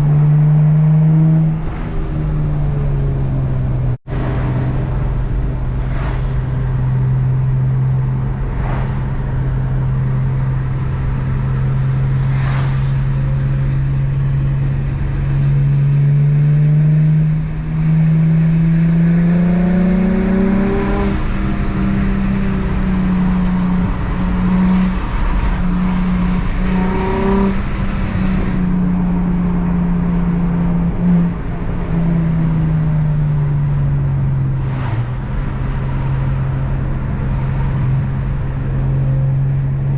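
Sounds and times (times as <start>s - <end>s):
car engine accelerating: 0.0s - 39.9s
car exhaust drone: 0.0s - 39.9s.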